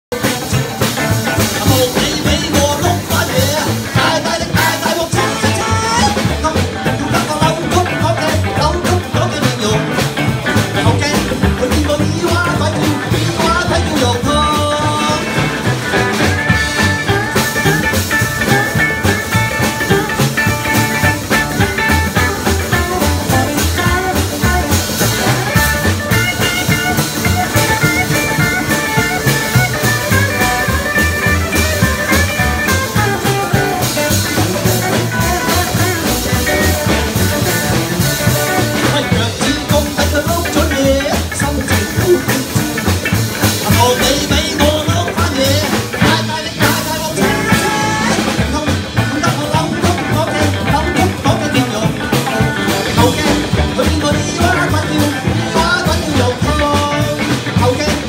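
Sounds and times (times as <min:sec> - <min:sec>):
drums: 0:00.0 - 0:58.0
upright double bass: 0:00.0 - 0:58.0
electric guitars: 0:00.1 - 0:58.0.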